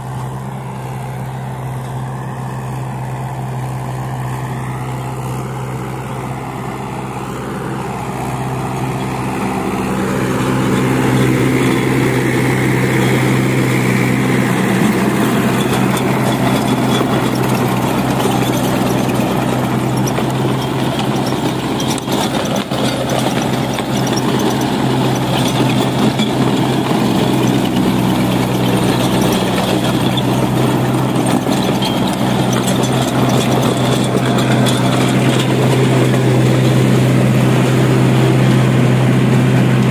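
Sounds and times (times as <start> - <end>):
rotavator blades churning soil: 0.0 - 39.9
tractor diesel engine under load: 0.0 - 39.9.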